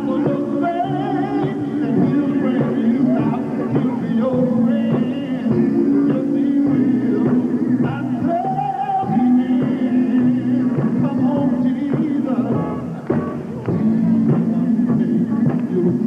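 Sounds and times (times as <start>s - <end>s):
quartet singing in harmony: 0.0s - 13.0s
drums: 0.0s - 16.0s
guitar: 0.0s - 16.0s.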